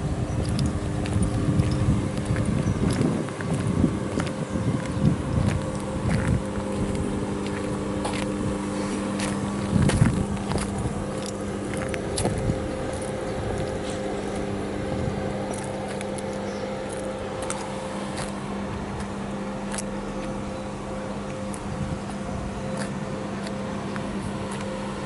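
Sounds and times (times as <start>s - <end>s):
electric locomotive humming: 0.0s - 25.0s.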